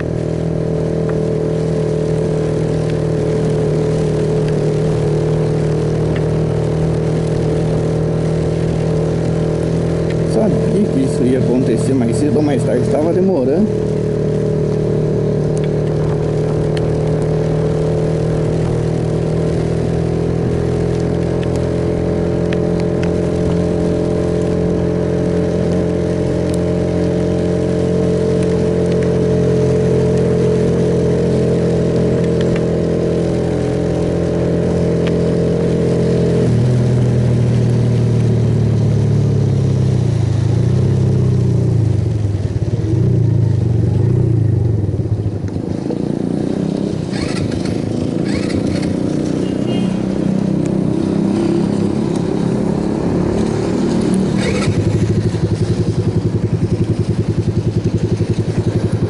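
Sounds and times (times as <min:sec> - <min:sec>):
motorcycle engine running: 0:00.0 - 0:59.0
rain and road spray hiss: 0:00.0 - 0:59.0.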